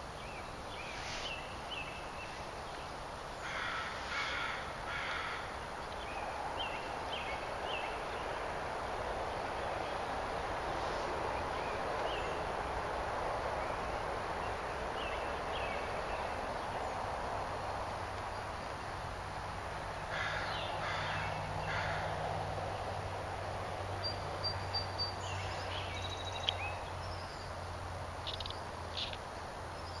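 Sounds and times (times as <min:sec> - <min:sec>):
steady hiss-like background: 0:00.0 - 0:30.0.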